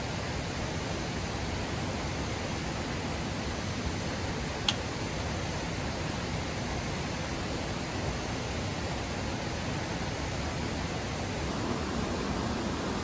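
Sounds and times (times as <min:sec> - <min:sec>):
rushing water hiss: 0:00.0 - 0:13.0.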